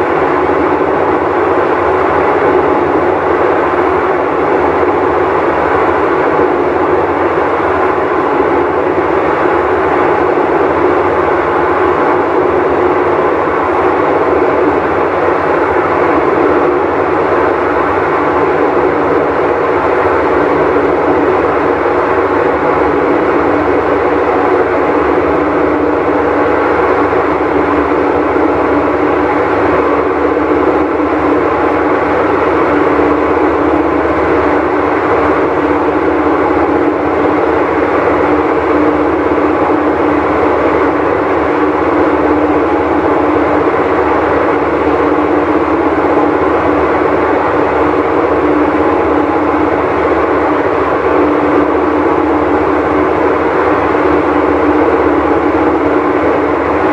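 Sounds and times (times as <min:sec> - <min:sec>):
washing machine roaring: 0:00.0 - 0:56.9.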